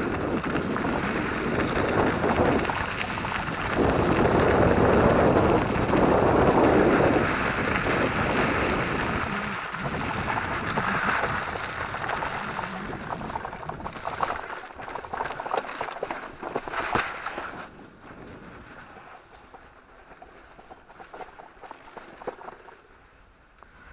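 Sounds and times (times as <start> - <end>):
bike rattling and knocking: 0.0 - 23.0
wind and tyres rushing: 0.0 - 23.9.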